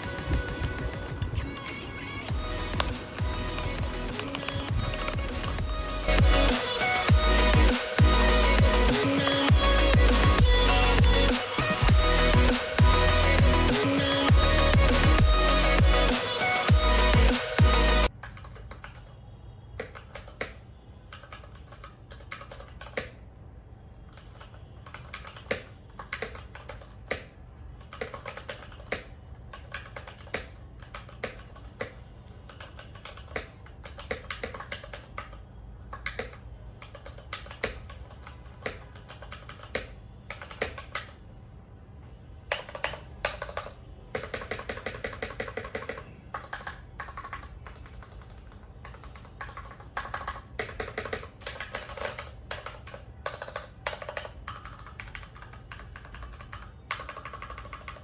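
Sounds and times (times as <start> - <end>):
typing on mechanical keyboard: 2.6 - 17.2, 18.1 - 41.5, 42.4 - 58.0.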